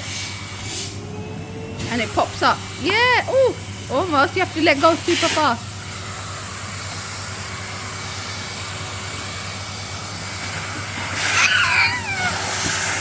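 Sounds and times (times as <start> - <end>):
vacuum cleaner motor running: 0.0 - 13.0.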